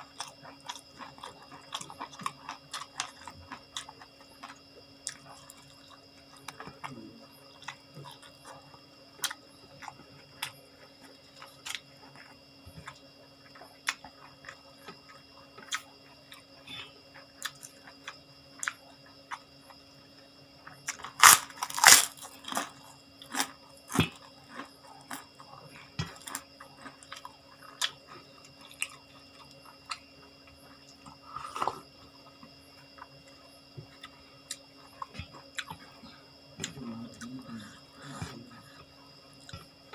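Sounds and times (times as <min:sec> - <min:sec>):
person chewing crunchy food: 0:00.0 - 0:19.8, 0:20.6 - 0:39.9
faint steady hum: 0:00.0 - 0:39.9.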